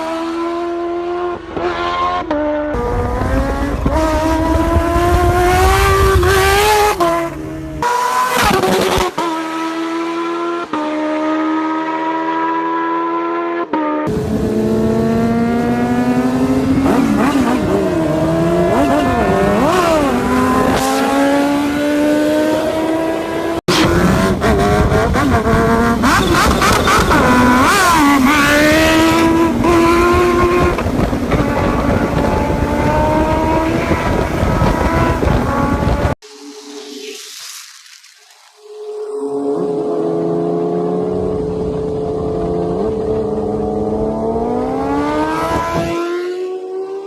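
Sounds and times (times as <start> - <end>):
motorcycle engine accelerating: 0.0 - 36.9, 38.9 - 47.0.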